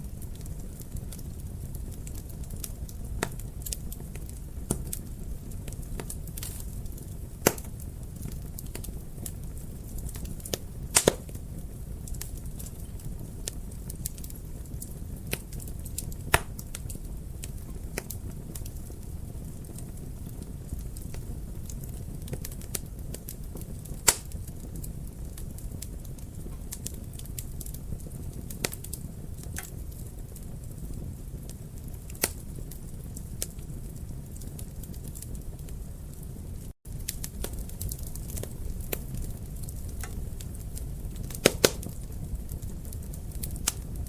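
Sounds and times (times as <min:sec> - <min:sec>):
fire crackling and popping: 0:00.0 - 0:44.0
low rumble of flames: 0:00.0 - 0:44.0.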